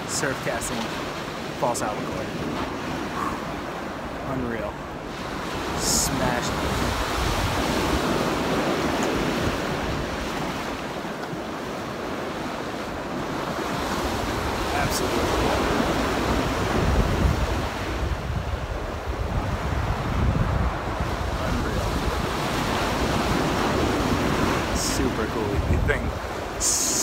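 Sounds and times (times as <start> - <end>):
surf breaking on rocky shore: 0.0 - 27.0
wind buffeting microphone: 1.4 - 27.0.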